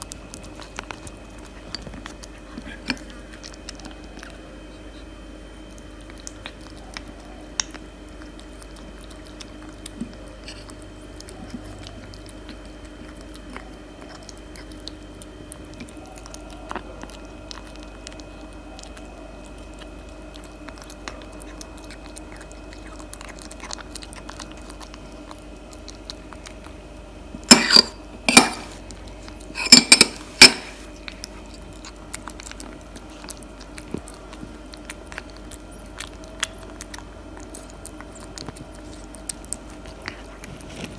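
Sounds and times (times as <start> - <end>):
faint steady hum: 0.0 - 40.9
kitten chewing and lapping: 0.0 - 40.9.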